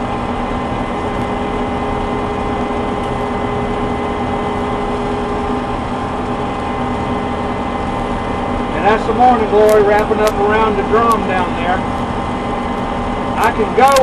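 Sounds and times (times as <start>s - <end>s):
combine harvester engine drone: 0.0s - 14.0s
whining tones: 0.0s - 14.0s.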